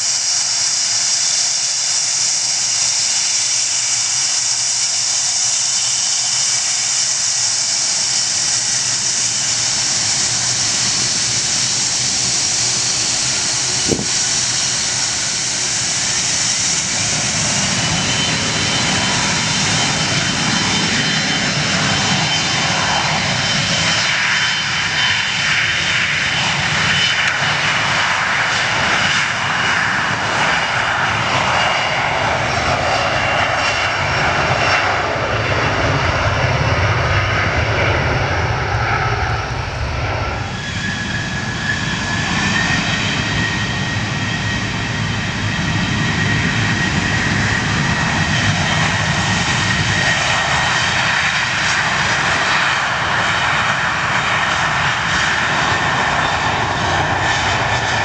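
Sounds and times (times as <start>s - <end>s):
jet engine high whine: 0.0s - 58.0s
jet engines roaring at takeoff: 0.0s - 58.0s.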